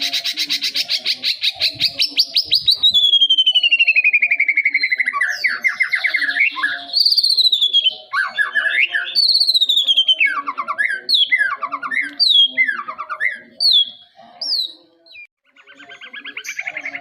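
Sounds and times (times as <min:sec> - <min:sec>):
bird whistling phrases: 0:00.0 - 0:17.0.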